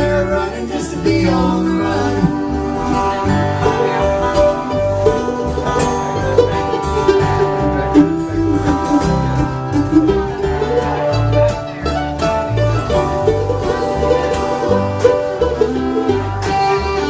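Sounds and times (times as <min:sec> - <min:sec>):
banjo picking: 0:00.0 - 0:17.0
bluegrass string band playing: 0:00.0 - 0:17.0.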